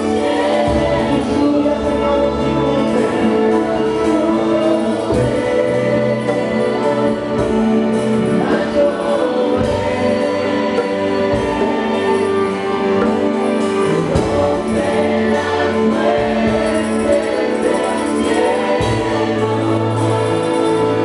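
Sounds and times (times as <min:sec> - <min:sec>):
choir singing held notes: 0:00.0 - 0:21.0
instrumental backing music: 0:00.0 - 0:21.0.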